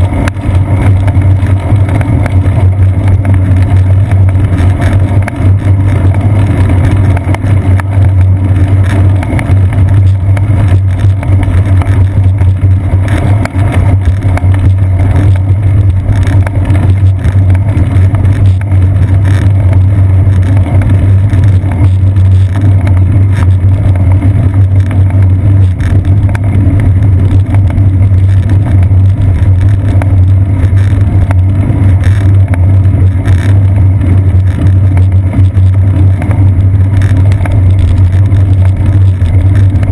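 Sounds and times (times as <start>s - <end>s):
bicycle rolling on asphalt: 0.0s - 39.9s.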